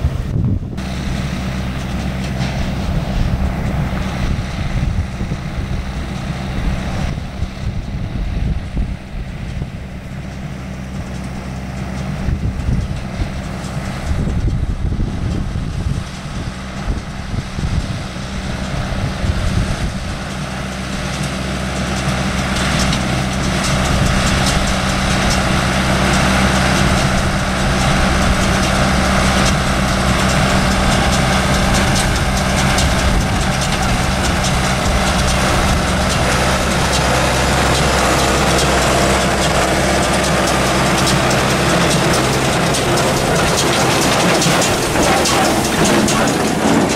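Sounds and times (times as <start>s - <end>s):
baler mechanical clatter: 0.0s - 46.9s
tractor diesel engine running: 0.0s - 46.9s
wind buffeting microphone: 0.0s - 46.9s.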